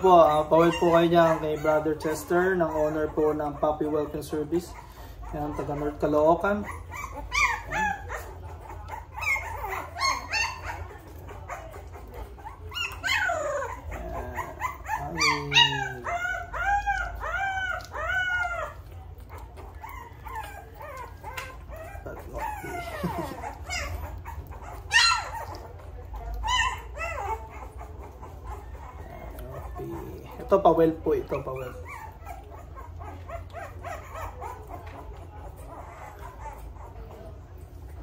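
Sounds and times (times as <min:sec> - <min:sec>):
puppy whining and crying: 0:00.0 - 0:38.0.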